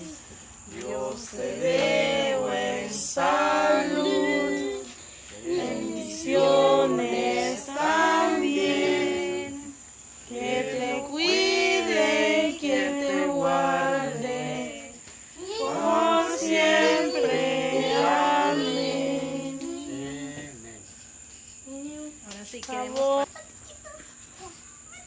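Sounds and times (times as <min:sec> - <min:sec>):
group singing birthday song: 0:00.0 - 0:20.9.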